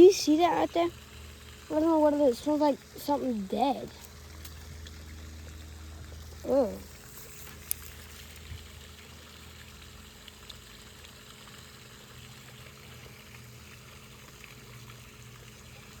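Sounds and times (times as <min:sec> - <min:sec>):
moving water: 0:00.0 - 0:16.0.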